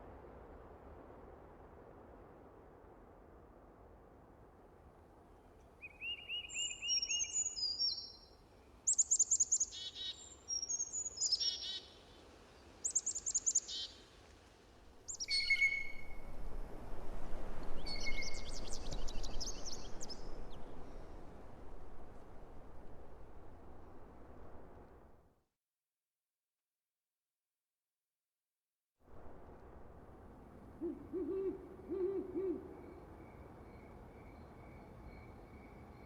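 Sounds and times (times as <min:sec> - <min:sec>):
soft noisy hiss: 0:00.0 - 0:25.3, 0:29.1 - 0:36.0.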